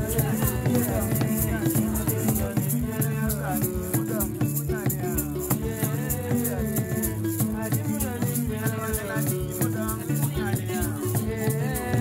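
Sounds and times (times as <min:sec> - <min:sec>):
men singing in unison: 0:00.0 - 0:12.0
shaken rattle beat: 0:00.0 - 0:12.0.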